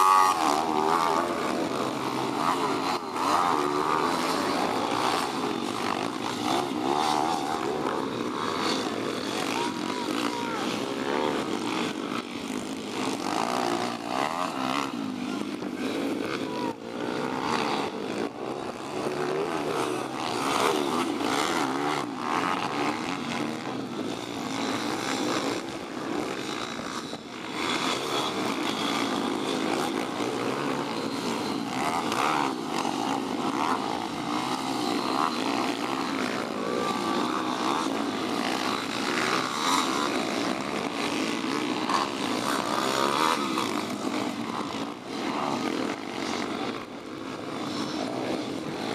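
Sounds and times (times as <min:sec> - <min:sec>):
pit bike engines revving: 0:00.0 - 0:48.9.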